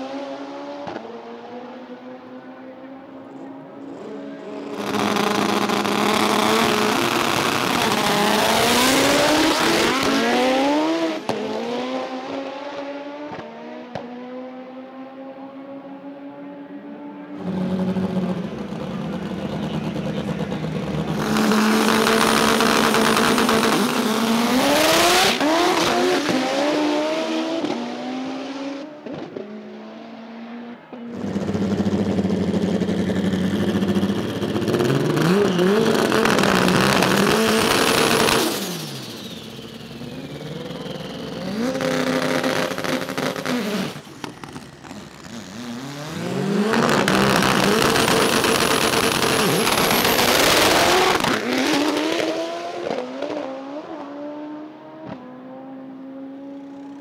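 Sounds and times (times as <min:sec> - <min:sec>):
drag race engines revving: 0:00.0 - 0:55.2.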